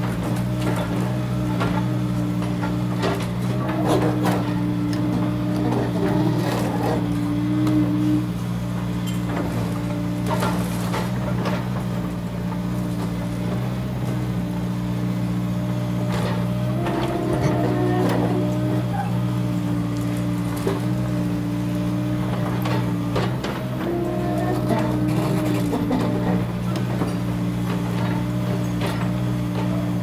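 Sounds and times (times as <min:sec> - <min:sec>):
excavator diesel engine under load: 0:00.0 - 0:30.0.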